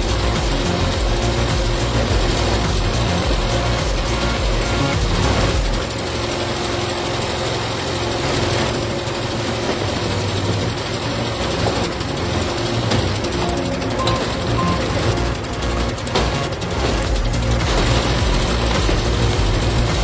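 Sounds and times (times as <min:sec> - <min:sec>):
log splitter engine running: 0:00.0 - 0:20.0.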